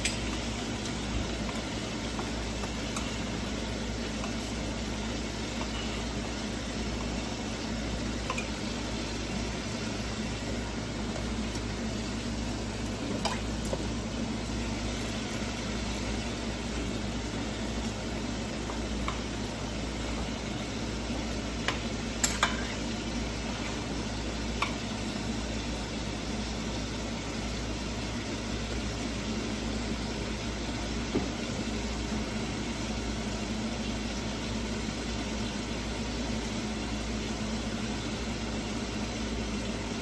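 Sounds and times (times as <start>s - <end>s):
beef sizzling in a skillet: 0.0s - 40.0s.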